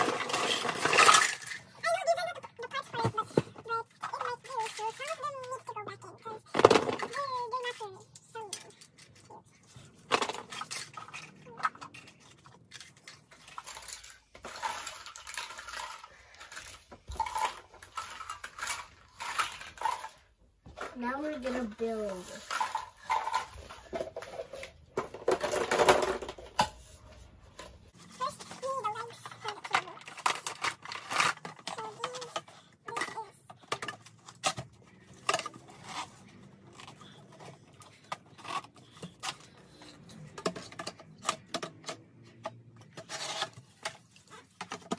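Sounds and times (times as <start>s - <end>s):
plastic toy dishes clattering: 0.0s - 44.9s.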